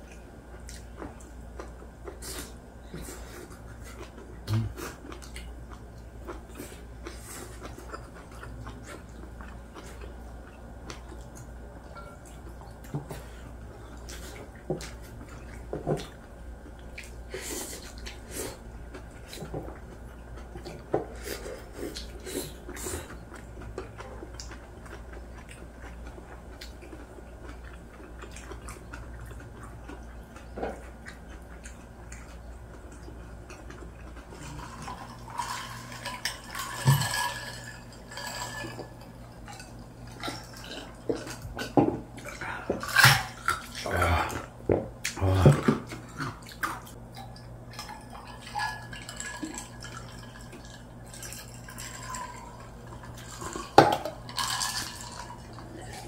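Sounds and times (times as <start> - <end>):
people chewing and slurping: 0.0 - 56.0
steady low hum: 0.0 - 56.0.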